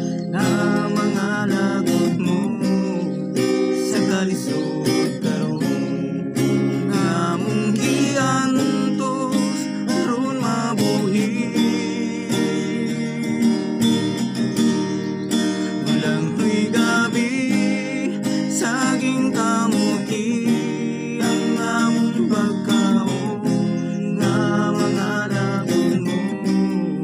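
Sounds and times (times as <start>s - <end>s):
men singing in duet: 0.0s - 14.0s, 15.8s - 27.0s
acoustic guitars strumming: 0.0s - 27.0s.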